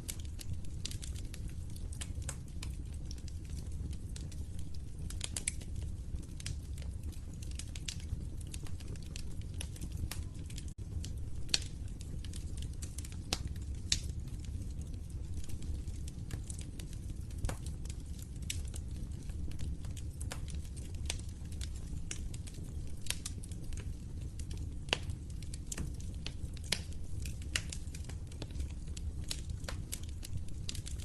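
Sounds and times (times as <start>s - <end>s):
flames rumbling: 0.0s - 31.0s
logs crackling and popping: 0.0s - 31.0s.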